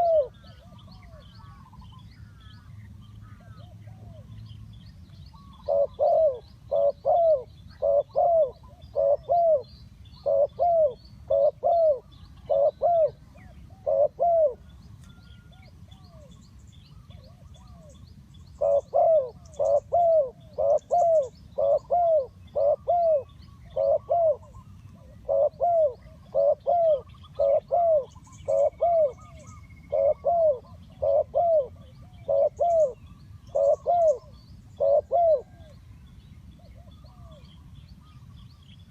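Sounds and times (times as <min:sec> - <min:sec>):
dove cooing: 0:00.0 - 0:02.0, 0:05.4 - 0:18.0, 0:18.6 - 0:35.8
small birds chirping: 0:00.0 - 0:38.9.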